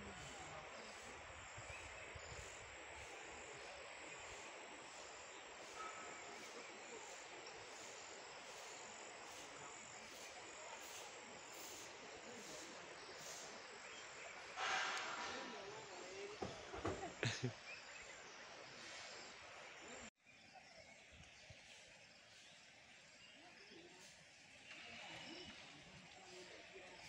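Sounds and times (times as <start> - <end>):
faint outdoor background hiss: 0.0 - 27.0.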